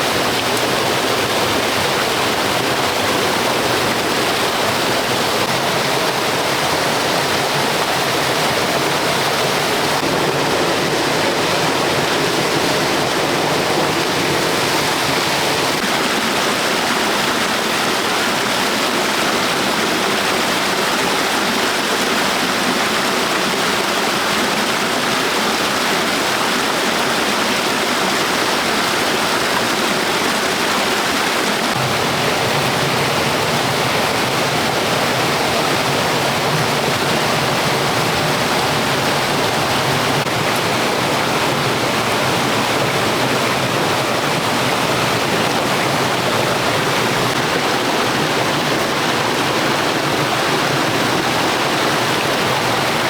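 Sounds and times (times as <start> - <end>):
flowing water rushing: 0.0 - 53.0.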